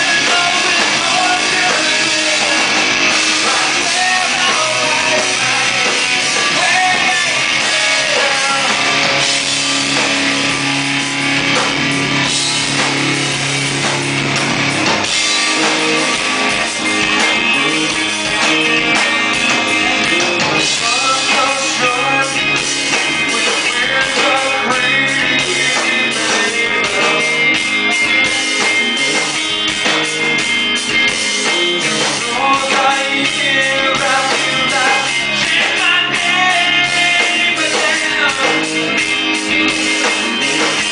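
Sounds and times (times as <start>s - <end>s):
person singing: 0.0s - 10.6s, 15.3s - 30.0s, 31.4s - 40.9s
bass guitar: 0.0s - 40.9s
distorted electric guitars: 0.0s - 40.9s
drum kit: 0.0s - 40.9s
live rock band playing: 0.0s - 40.9s.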